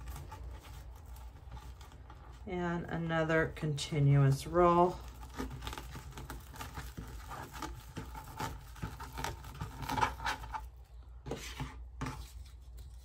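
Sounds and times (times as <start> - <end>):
mesh rustling and crinkling: 0.0 - 13.0.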